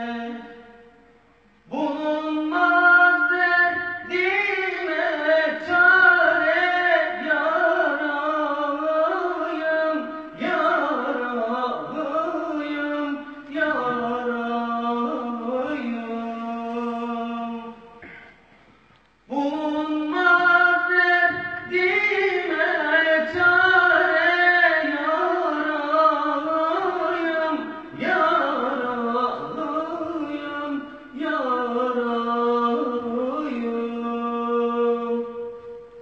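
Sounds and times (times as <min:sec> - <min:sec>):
man singing unaccompanied hymn: 0:00.0 - 0:01.0, 0:01.6 - 0:18.2, 0:19.3 - 0:36.0.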